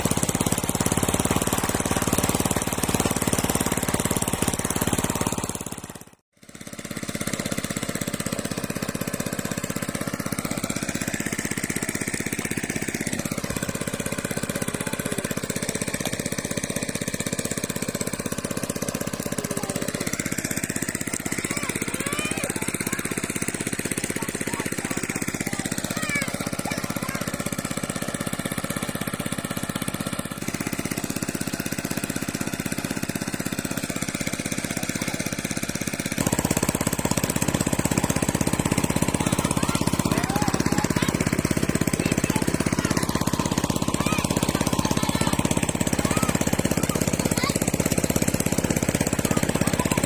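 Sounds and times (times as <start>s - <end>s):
water pump engine knocking: 0.0s - 50.0s.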